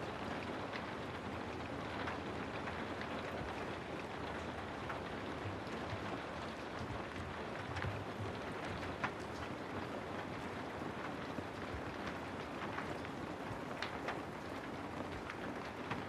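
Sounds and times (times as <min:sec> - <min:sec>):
faint raindrop ticks: 0:00.0 - 0:16.0.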